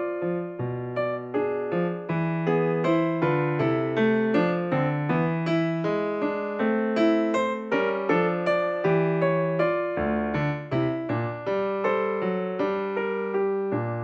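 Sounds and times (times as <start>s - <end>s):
calm piano music: 0.0s - 14.0s.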